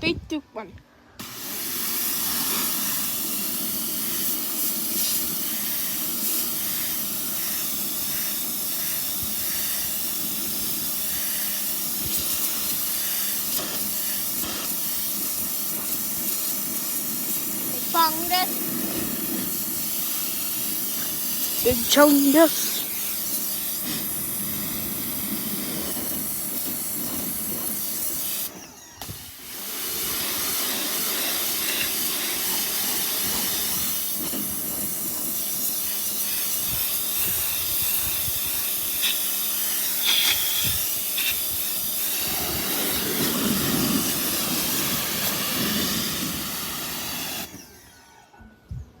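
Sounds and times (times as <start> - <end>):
pressure washer jet hissing: 1.2 - 28.6, 29.2 - 47.9.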